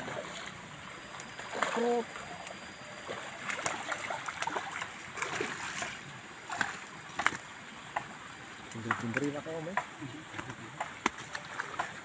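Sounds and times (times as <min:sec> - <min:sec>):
fish splashing in water: 0:00.0 - 0:12.0.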